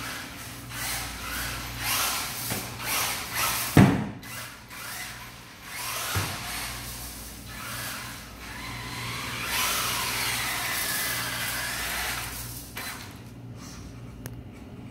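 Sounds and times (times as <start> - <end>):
toy car motor whirring: 0.0 - 13.2.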